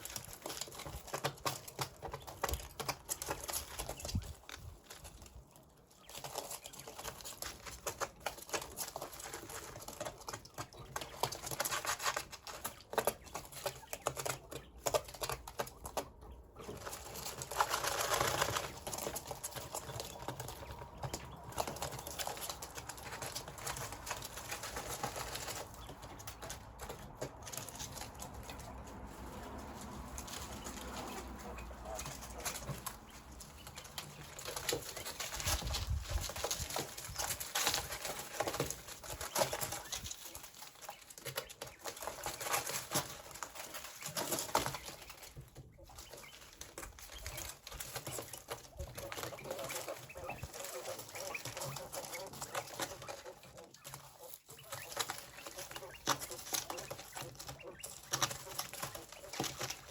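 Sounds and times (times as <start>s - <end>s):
quail pecking: 0.0s - 59.9s
soft bird calls: 0.0s - 59.9s.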